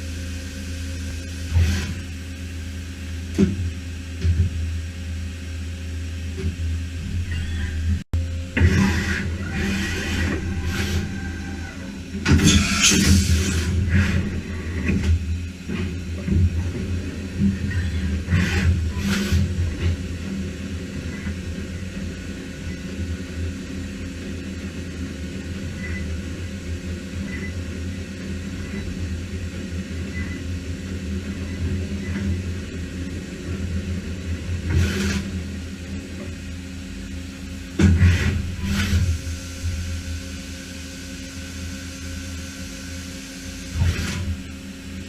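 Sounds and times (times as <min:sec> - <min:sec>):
machining center humming: 0:00.0 - 0:45.0.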